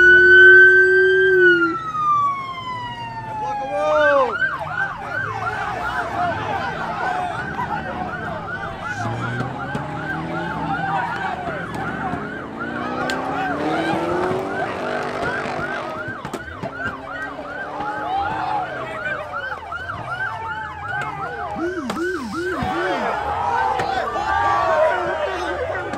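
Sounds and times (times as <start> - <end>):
police siren yelping: 0.0 - 25.9.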